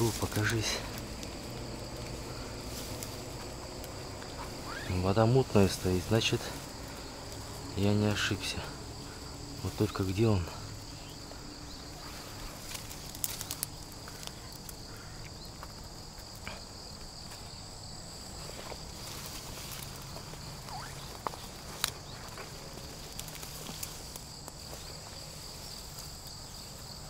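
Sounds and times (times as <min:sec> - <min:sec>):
footsteps in vegetation: 0:00.0 - 0:27.0
high-pitched insect chorus: 0:00.0 - 0:27.0.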